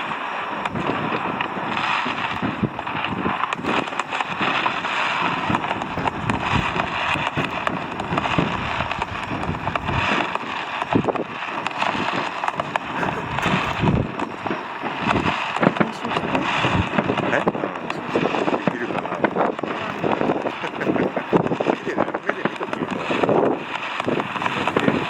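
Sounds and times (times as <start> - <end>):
fireworks crackling: 0.0 - 25.0
fireworks hiss: 0.0 - 25.0.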